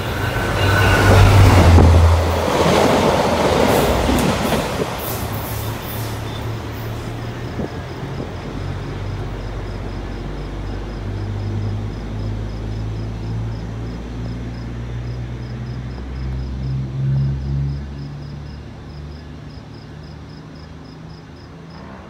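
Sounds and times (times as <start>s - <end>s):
train diesel engine drone: 0.0s - 22.0s.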